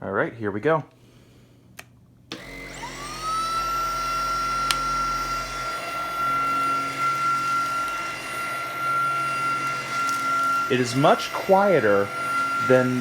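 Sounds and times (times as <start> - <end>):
vacuum motor whine: 2.3 - 13.0.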